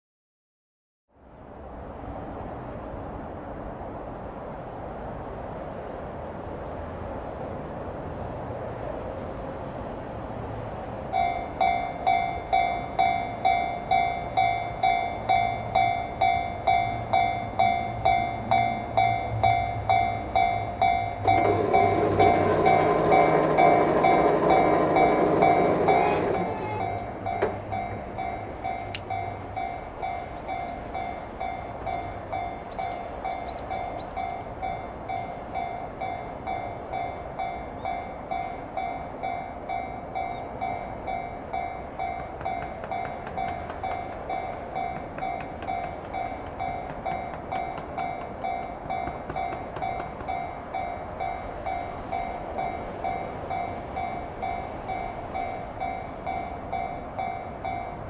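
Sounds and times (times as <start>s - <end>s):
level crossing warning bell ringing: 11.1s - 58.0s.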